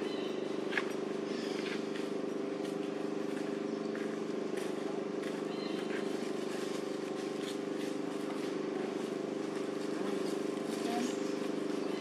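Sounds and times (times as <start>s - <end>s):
motor drone: 0.0s - 12.0s.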